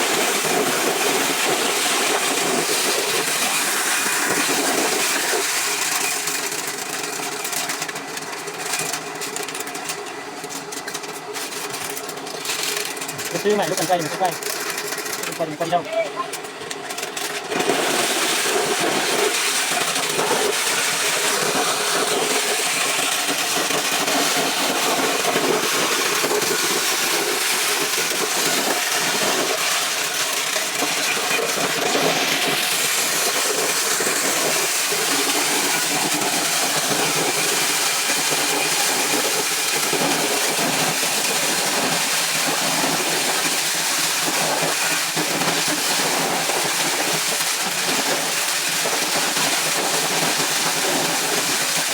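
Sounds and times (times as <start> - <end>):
corn sheller motor running: 0.0 - 51.9.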